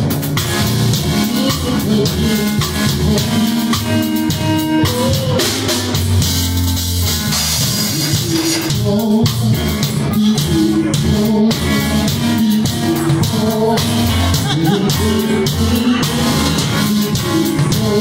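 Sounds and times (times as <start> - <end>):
drum kit playing: 0.0 - 18.0
electric keyboard chords: 0.0 - 18.0.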